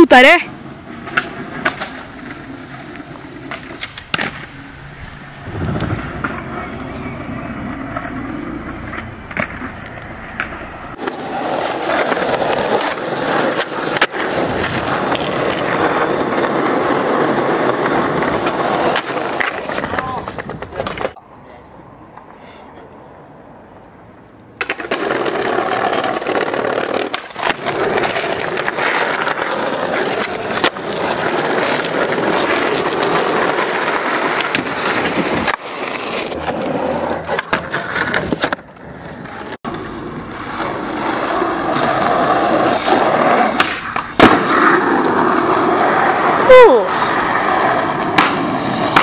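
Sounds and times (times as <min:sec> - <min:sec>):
skateboard wheels rolling on asphalt: 0:00.0 - 0:49.0
skateboard clacks and slaps: 0:01.0 - 0:04.5, 0:05.5 - 0:21.2, 0:24.6 - 0:49.0.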